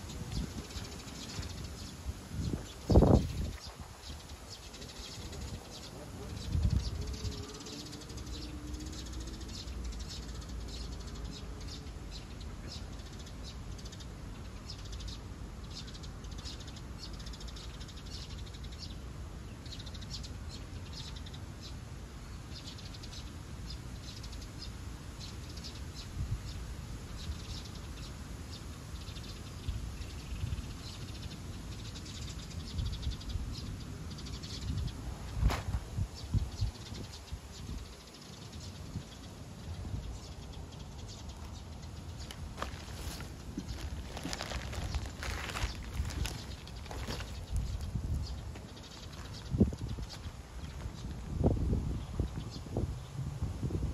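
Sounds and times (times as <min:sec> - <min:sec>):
small birds chirping: 0:00.0 - 0:53.2.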